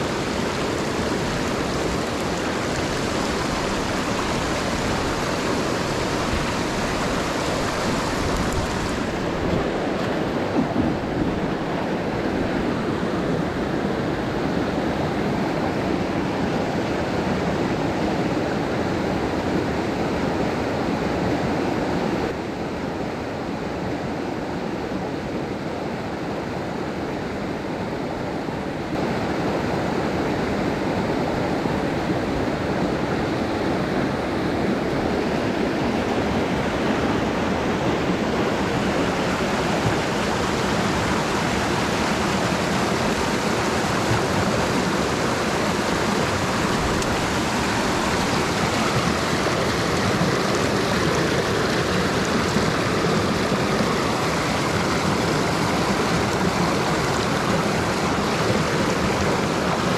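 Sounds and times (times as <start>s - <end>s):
rushing stream water: 0.0s - 59.9s.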